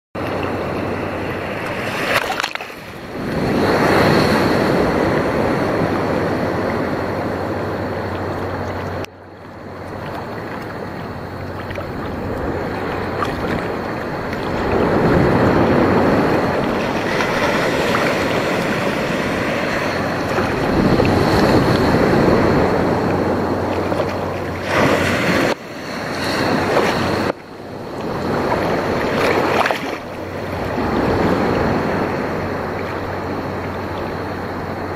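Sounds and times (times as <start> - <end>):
ocean surf washing: 0.2 - 34.9.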